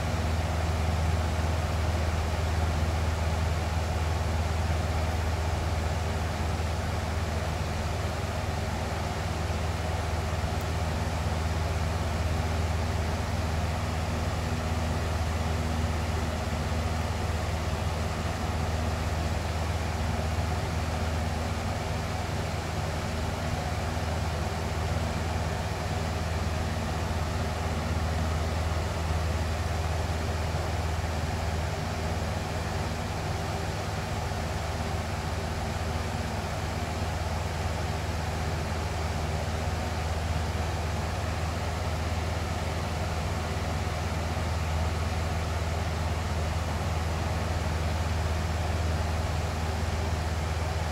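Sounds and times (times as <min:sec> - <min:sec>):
box fan running: 0:00.0 - 0:50.9.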